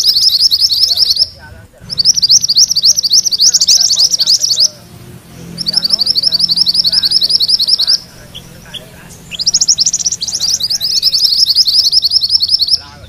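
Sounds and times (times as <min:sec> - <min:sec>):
songbird singing rolling song: 0:00.0 - 0:13.0.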